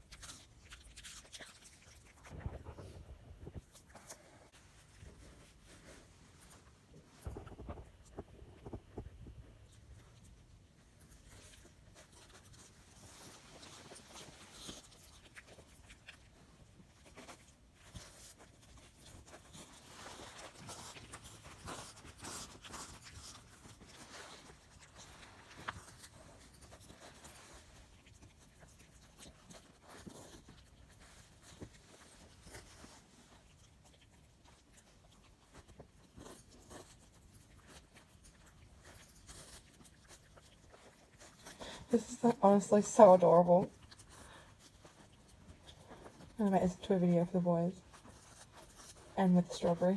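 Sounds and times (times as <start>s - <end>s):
puppy chewing fruit: 0.0s - 49.9s.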